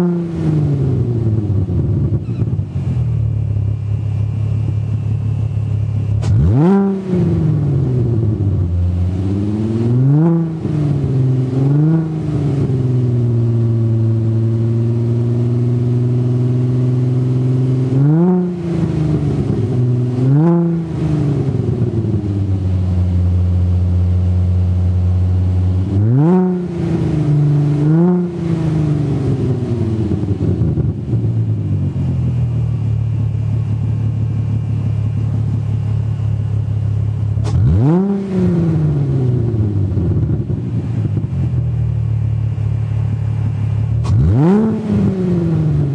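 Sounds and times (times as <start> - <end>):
car engine idling: 0.0 - 45.9
engine throttle blips: 0.0 - 45.9.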